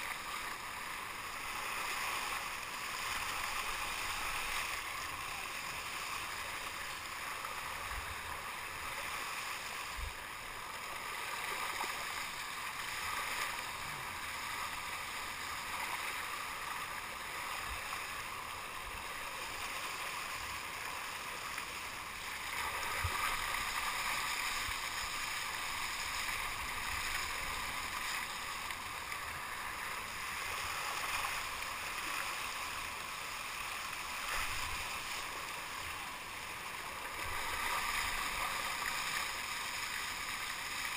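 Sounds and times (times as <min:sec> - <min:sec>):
water splashing along kayak hull: 0:00.0 - 0:40.9.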